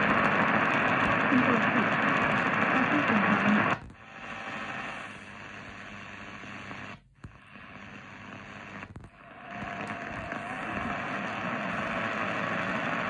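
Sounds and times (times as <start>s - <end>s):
radio static hiss: 0.0s - 13.0s
radio station audio: 0.0s - 13.0s.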